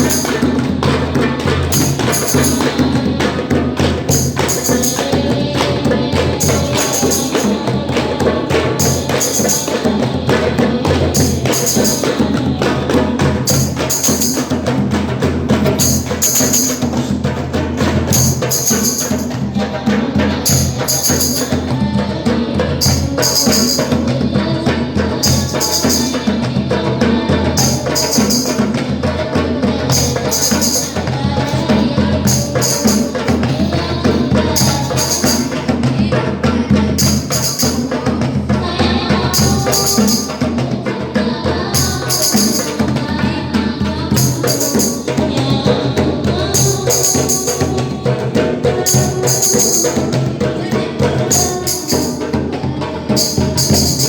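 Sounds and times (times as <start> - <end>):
percussion music: 0.0 - 54.0.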